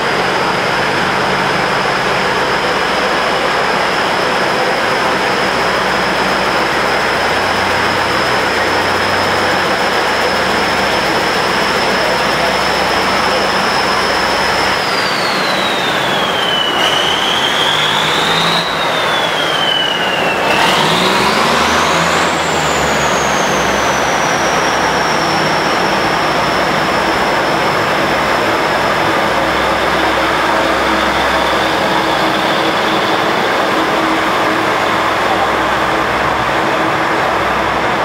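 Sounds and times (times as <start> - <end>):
diesel railcar engines under load: 0.0 - 38.0
high gliding whine: 0.0 - 38.0.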